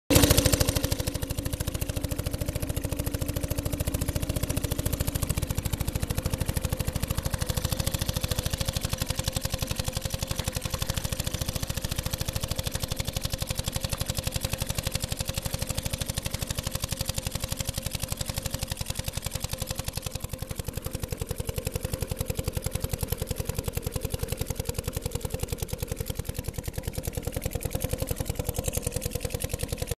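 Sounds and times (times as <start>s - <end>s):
outboard motor running: 0.1s - 30.0s.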